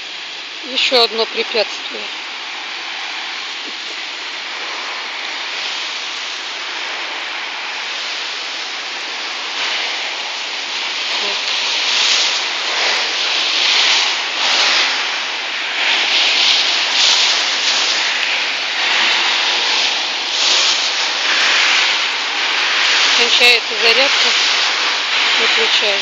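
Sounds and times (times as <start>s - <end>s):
traffic hiss on wet asphalt: 0.0s - 26.0s.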